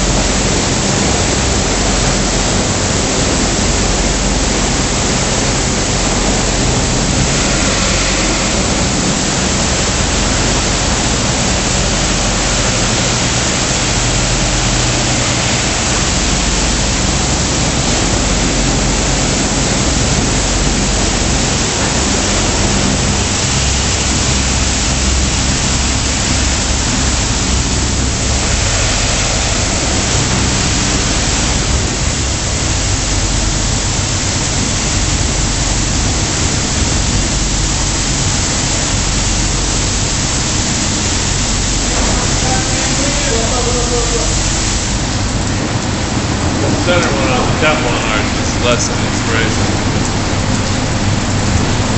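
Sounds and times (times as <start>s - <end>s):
low machinery hum: 0.0s - 51.9s
water spray jets rushing: 0.0s - 51.9s.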